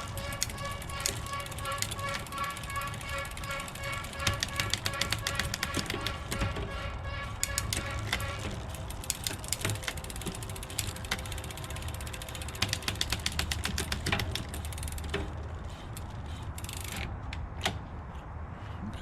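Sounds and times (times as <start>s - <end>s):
bicycle hub ratchet clicking: 0.0s - 18.8s.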